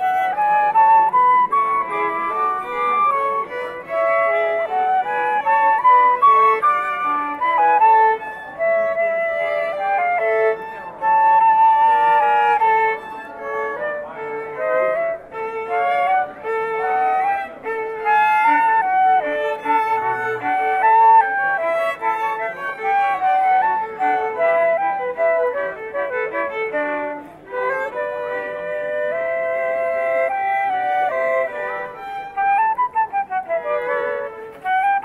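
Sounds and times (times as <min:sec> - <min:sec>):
flute playing: 0:00.0 - 0:35.0
violin playing: 0:00.0 - 0:35.0.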